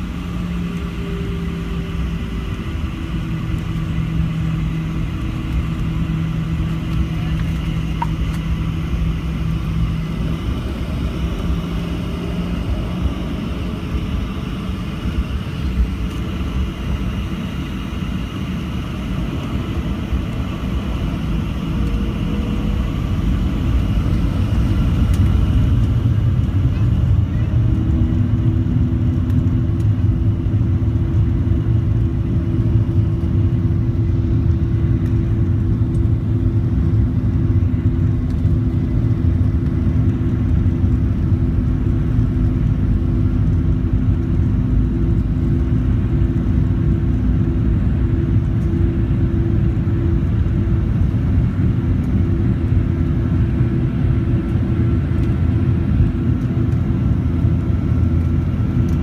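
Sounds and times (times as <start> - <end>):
jet engine humming tones: 0.0 - 59.0
jet engines deep rumble: 0.0 - 59.0.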